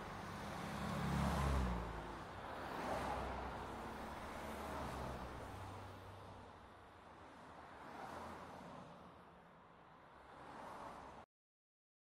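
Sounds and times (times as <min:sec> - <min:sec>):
traffic noise: 0:00.0 - 0:11.3.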